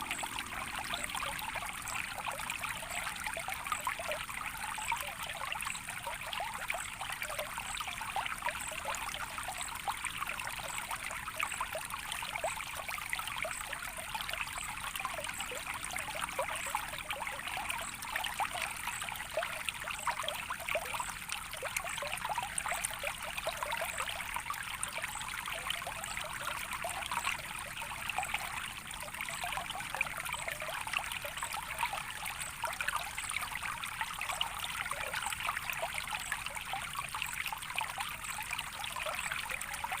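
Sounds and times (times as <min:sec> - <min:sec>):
stream trickling and bubbling: 0:00.0 - 0:40.0.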